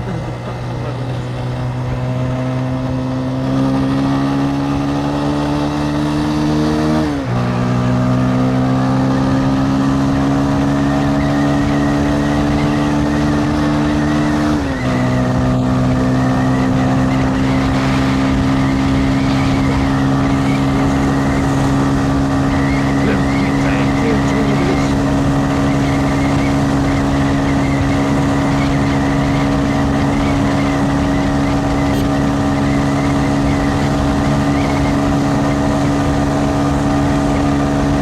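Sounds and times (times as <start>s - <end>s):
wind and road noise: 0.0s - 38.0s.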